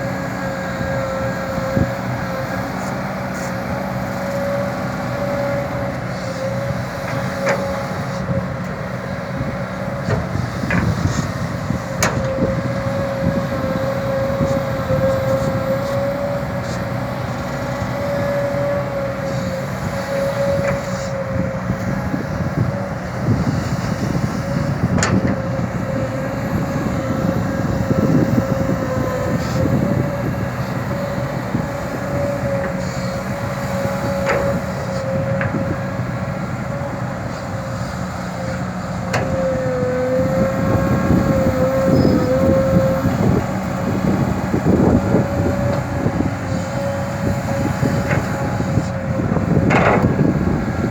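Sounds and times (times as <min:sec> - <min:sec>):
excavator engine rumble and whine: 0:00.0 - 0:50.9.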